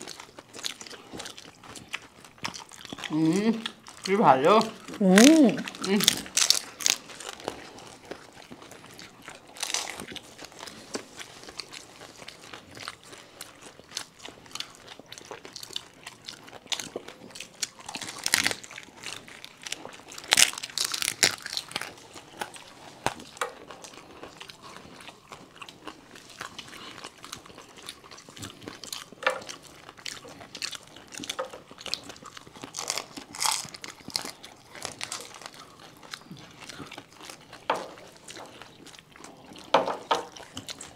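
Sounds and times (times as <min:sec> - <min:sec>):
people crunching crisp shells: 0:00.0 - 0:40.9.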